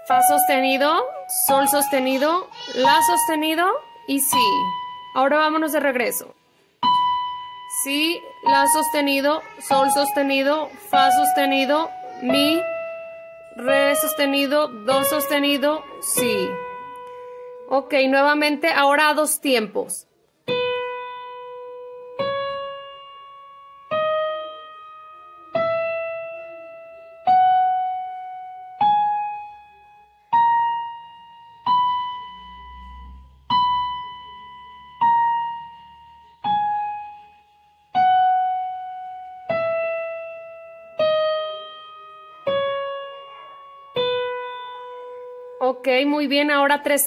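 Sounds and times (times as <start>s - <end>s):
digital piano playing a scale: 0.0s - 19.2s, 20.4s - 47.0s.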